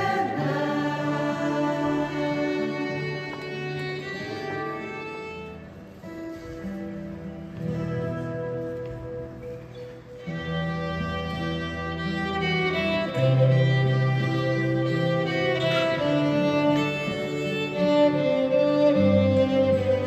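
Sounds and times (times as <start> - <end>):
acoustic guitar accompaniment: 0.0 - 20.0
violin slow melody: 0.0 - 20.0.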